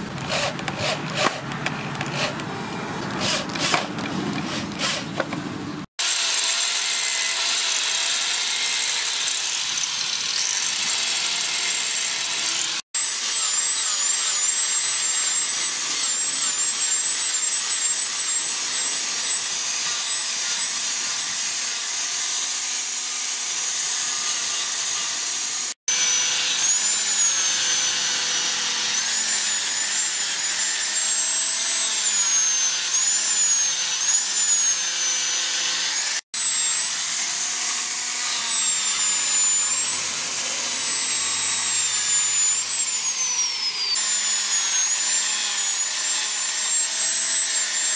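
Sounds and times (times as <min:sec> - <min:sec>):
angle grinder sanding: 0:00.0 - 0:05.3, 0:06.0 - 0:47.9.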